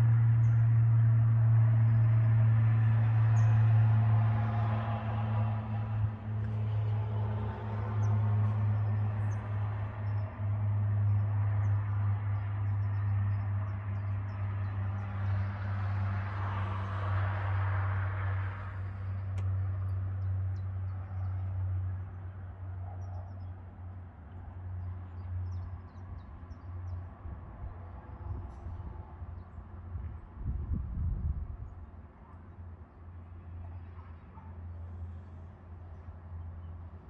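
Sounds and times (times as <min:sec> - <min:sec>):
traffic noise: 0:00.0 - 0:37.0
turboprop aircraft droning overhead: 0:00.0 - 0:37.0.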